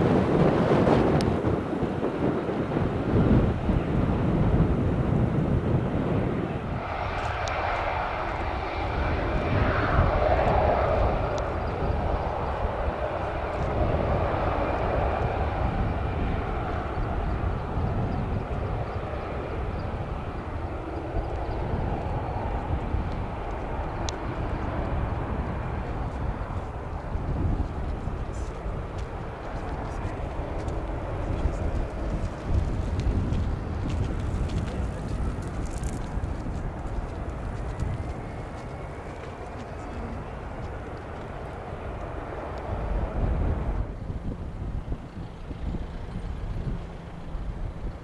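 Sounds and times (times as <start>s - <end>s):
jet engines running loud: 0.0s - 48.0s
low rumble: 0.0s - 48.0s.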